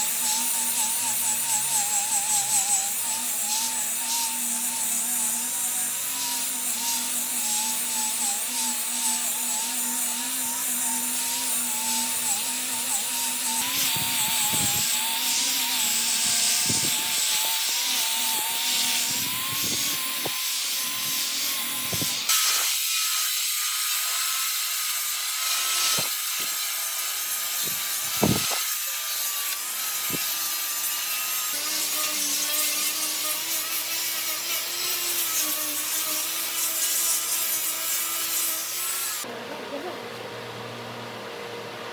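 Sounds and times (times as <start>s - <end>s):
hiss of abrasion on wood: 0.0s - 39.2s
power tool motor whine: 0.0s - 39.3s.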